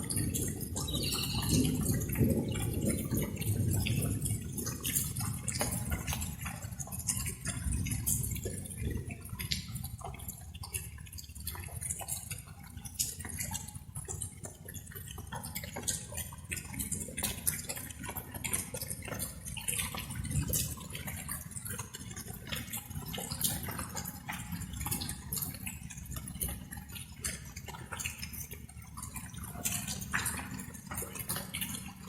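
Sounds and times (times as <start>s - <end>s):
rain drops dripping: 0.0s - 32.0s.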